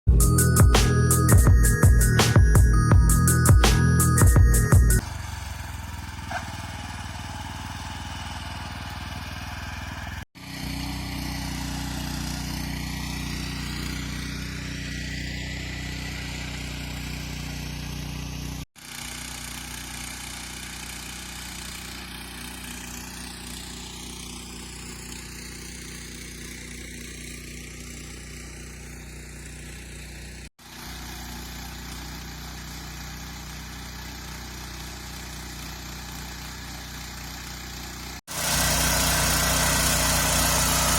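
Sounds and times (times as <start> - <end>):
small tractor engine running: 0.1 - 40.9.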